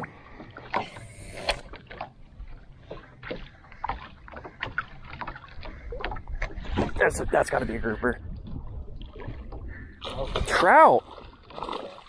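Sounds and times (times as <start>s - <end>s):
water sloshing against hull: 0.0s - 12.0s.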